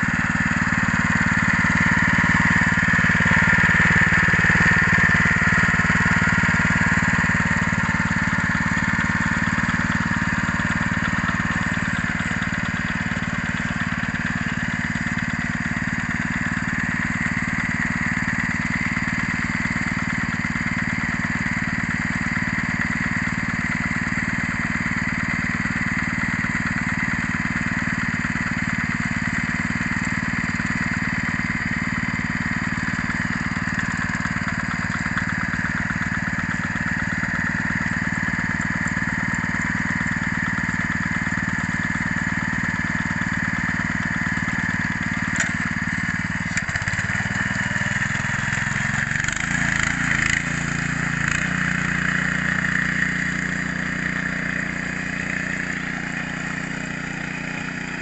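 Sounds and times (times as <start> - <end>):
small petrol engine idling: 0.0 - 58.0.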